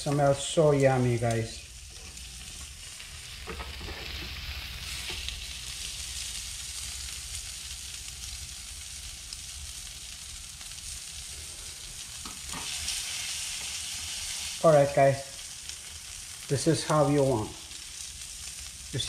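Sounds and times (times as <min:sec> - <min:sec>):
patties sizzling in butter: 0:00.0 - 0:19.0.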